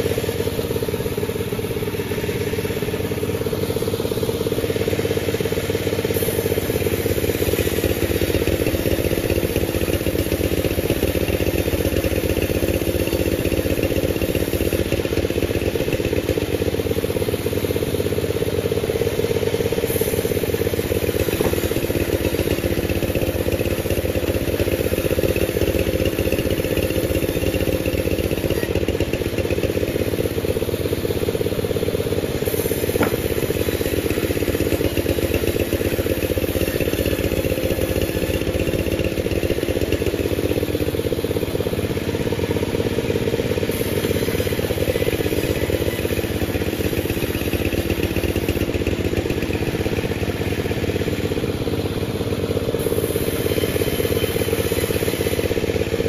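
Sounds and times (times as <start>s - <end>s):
sawmill machine drone: 0.0s - 56.0s.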